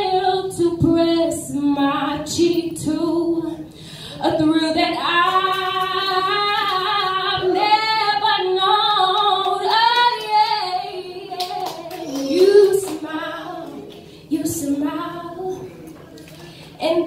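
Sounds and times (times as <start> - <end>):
woman singing: 0.0 - 15.8, 16.8 - 17.0.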